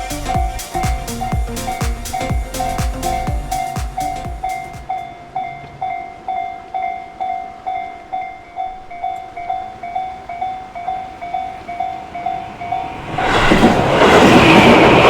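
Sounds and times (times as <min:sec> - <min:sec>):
level crossing warning bell: 0:00.0 - 0:13.1.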